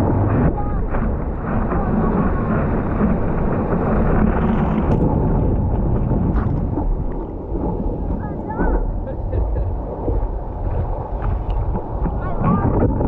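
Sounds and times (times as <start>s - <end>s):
surf breaking: 0.0s - 13.0s
wind buffeting microphone: 0.0s - 13.0s.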